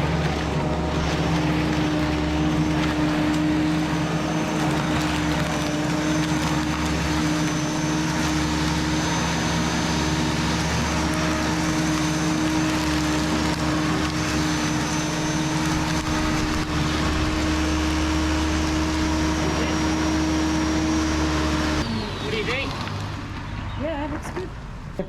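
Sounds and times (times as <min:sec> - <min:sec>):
electric lawn mower running: 0:00.0 - 0:23.8.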